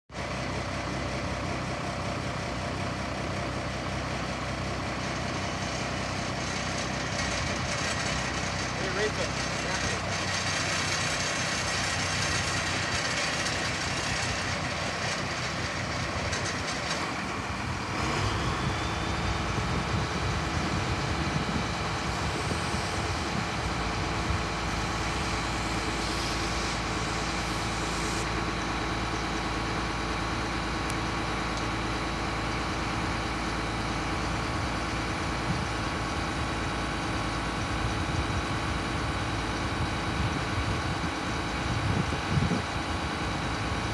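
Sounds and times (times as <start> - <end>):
truck engine running: 0.1 - 43.9
hydraulic high whine: 4.0 - 43.9.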